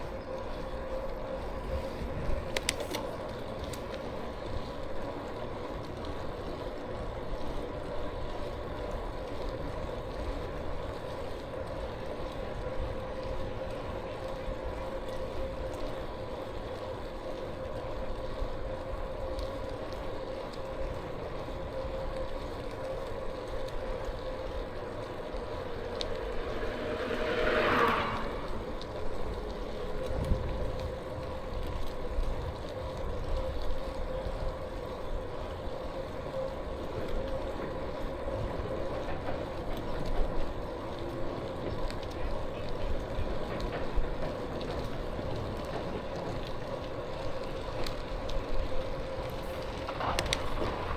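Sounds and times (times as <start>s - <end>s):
electric bike motor whine: 0.0s - 50.9s
wind rumble on microphone: 0.0s - 50.9s.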